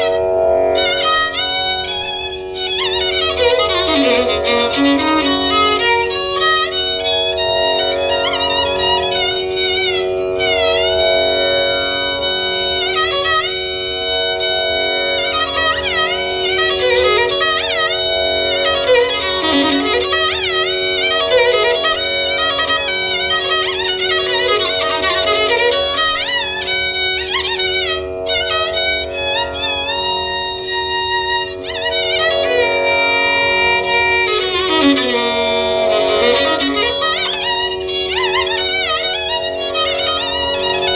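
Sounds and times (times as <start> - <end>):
steady drone: 0.0 - 40.9
violin playing ornamented phrases: 0.0 - 40.9.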